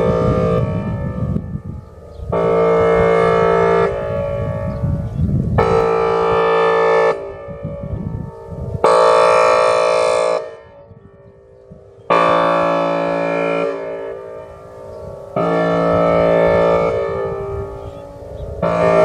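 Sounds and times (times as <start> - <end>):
siren air horn blasts: 0.0 - 19.0.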